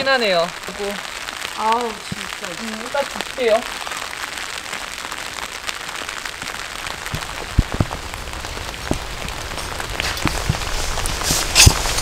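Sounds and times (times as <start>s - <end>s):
rain falling: 0.0s - 12.0s
sharp raindrop hits: 0.0s - 12.0s.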